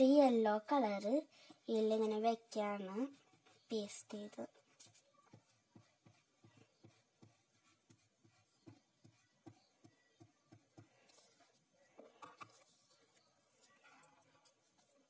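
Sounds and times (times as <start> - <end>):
glue stick rubbing on paper: 1.8 - 15.0.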